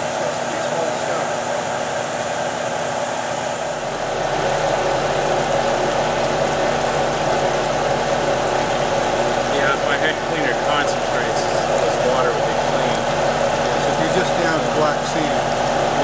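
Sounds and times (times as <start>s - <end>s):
machine mechanical hum: 0.0s - 16.0s
water rushing across deck: 0.0s - 16.0s.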